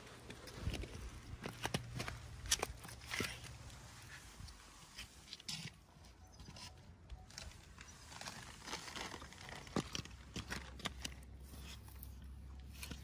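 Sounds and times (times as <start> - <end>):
scuffs and clicks on bare rock: 0.0 - 13.0.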